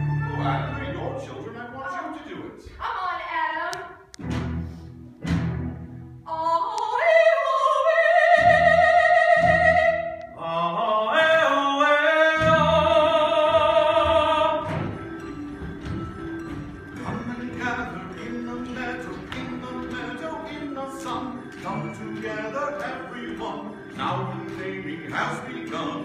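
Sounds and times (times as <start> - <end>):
musical accompaniment: 0.0 - 1.8, 4.0 - 6.8, 8.0 - 26.0.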